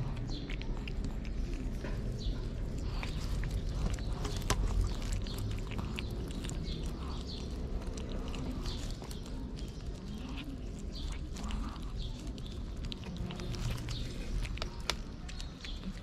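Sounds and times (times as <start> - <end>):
cats chewing and licking: 0.0 - 16.0.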